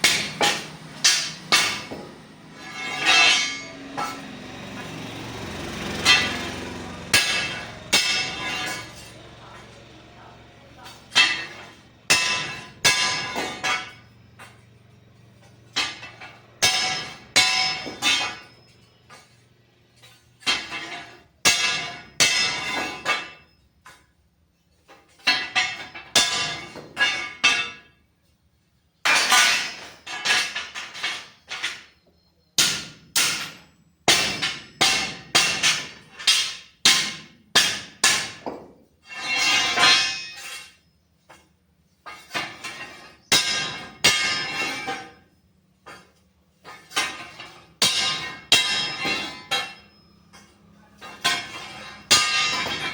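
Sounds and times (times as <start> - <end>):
hammer clanging on steel: 0.0 - 24.1, 24.9 - 28.0, 29.0 - 52.9.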